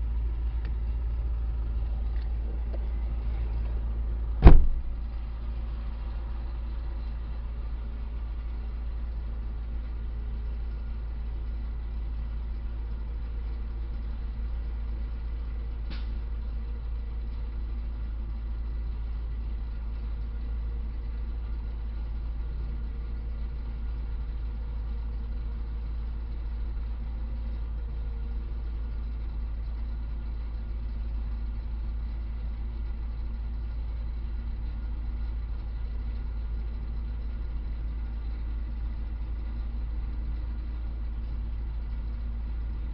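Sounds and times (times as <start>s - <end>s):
vehicle engine rumbling: 0.0s - 42.9s.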